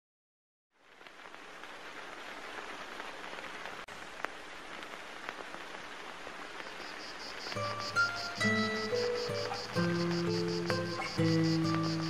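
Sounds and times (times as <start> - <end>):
crackling hiss: 0.7 - 12.0.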